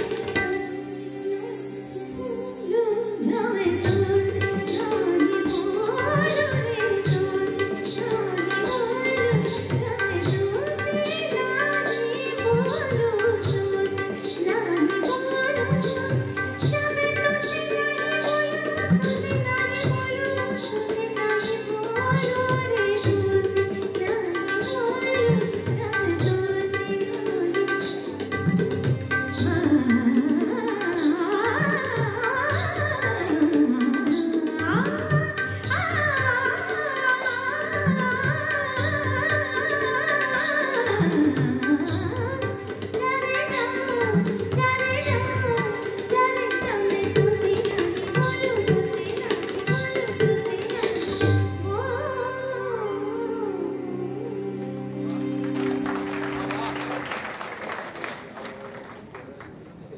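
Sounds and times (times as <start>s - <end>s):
hand percussion: 0.0s - 52.4s
woman singing into microphone: 0.0s - 55.4s.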